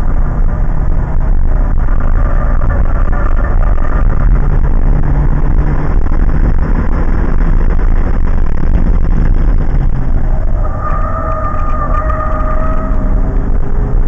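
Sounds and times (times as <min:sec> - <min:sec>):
car engine accelerating in cabin: 0:00.0 - 0:14.0.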